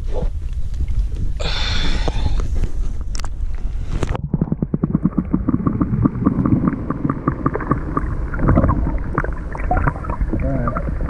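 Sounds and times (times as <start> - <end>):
water sloshing and bubbling underwater: 0.0 - 11.0.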